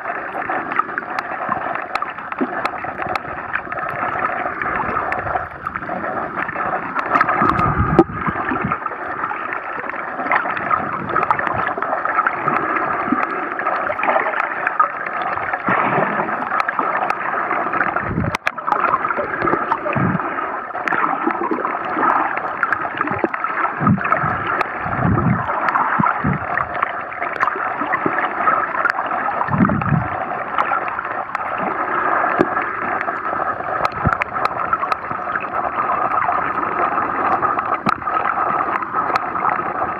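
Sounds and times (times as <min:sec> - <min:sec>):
muffled underwater rushing: 0:00.0 - 0:39.9.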